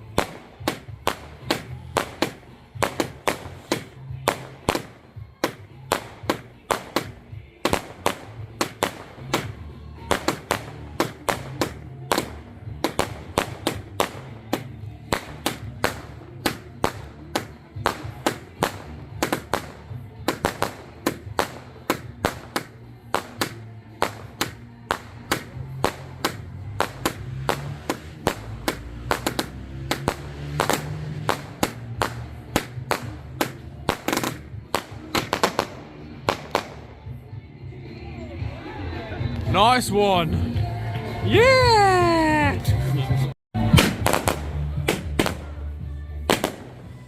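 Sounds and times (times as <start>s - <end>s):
fireworks banging: 0.0s - 37.2s, 43.6s - 47.0s
music playing: 0.0s - 47.0s.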